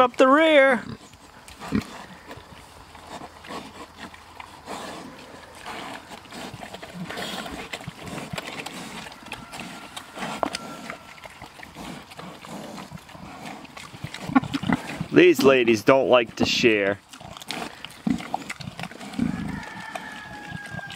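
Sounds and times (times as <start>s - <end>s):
pigs chewing and rooting: 0.0s - 20.9s.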